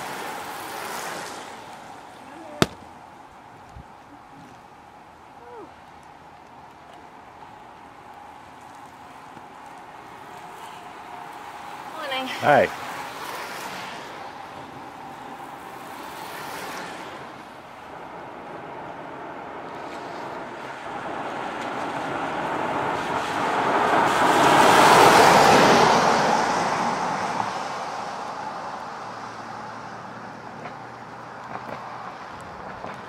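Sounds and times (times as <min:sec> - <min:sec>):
tyres hissing on wet road: 0:00.0 - 0:03.5, 0:04.8 - 0:33.0.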